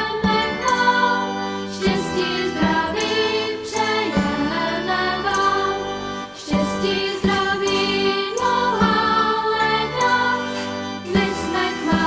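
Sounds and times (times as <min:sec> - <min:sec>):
choir singing held notes: 0:00.0 - 0:12.0.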